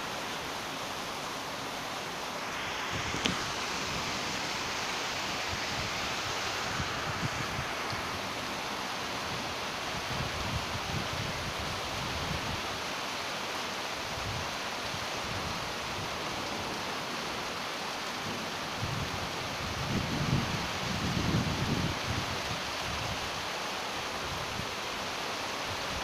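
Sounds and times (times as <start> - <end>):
heavy rain on concrete and plants: 0.0 - 26.0.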